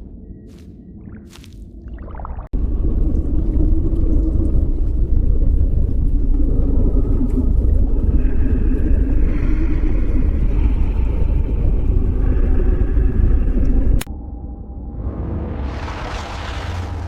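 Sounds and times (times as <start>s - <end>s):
deep steady rumble: 1.6s - 17.0s.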